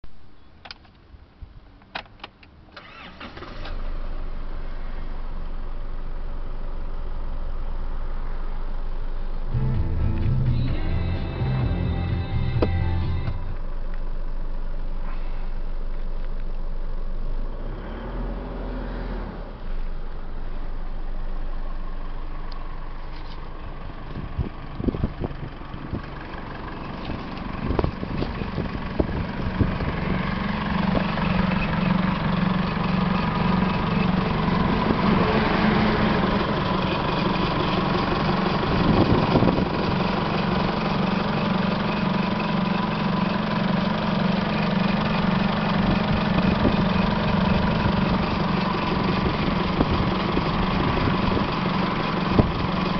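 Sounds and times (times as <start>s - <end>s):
diesel engine idling: 2.8s - 17.5s, 19.8s - 52.9s.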